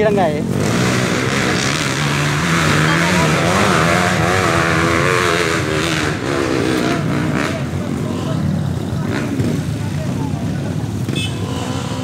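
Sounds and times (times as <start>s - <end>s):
crowd voices: 0.0s - 12.0s
dirt bike engines revving: 0.0s - 12.0s.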